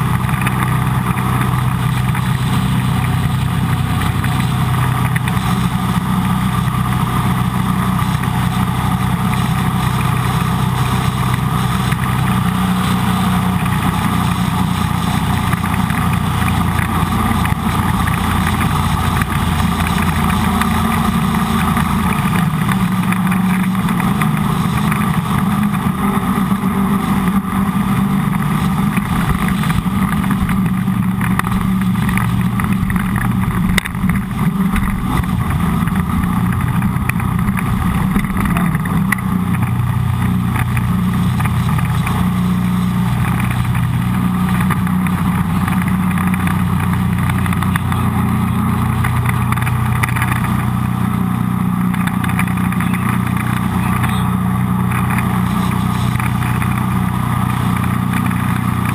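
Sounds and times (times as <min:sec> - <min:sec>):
boat engine drone: 0:00.0 - 0:58.9
water rushing: 0:00.0 - 0:58.9.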